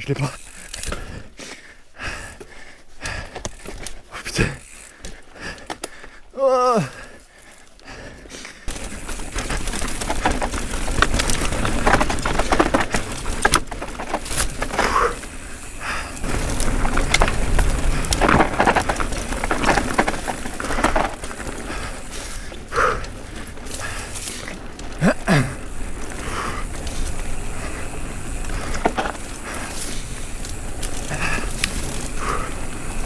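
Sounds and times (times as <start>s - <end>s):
bike clattering and rattling: 0.0s - 1.3s, 2.0s - 33.0s
bike tyres rolling over dirt: 0.0s - 33.0s.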